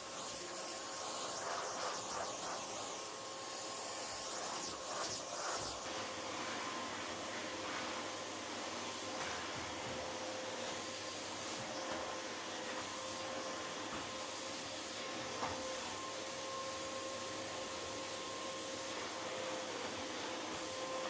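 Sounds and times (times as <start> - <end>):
stick vacuum cleaner running: 0.0 - 21.0.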